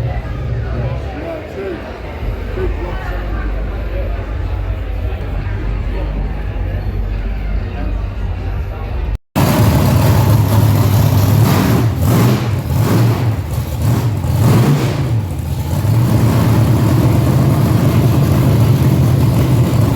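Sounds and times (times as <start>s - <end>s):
car engine idling and revving: 2.2s - 19.9s.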